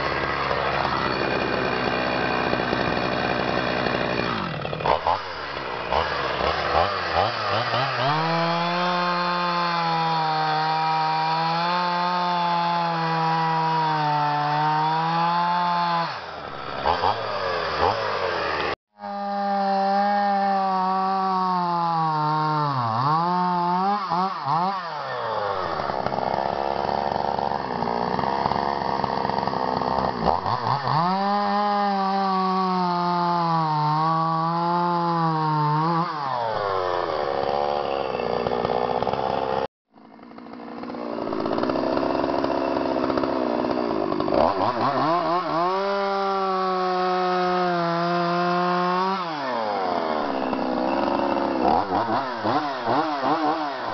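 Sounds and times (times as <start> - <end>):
chainsaw cutting logs: 0.0 - 53.9.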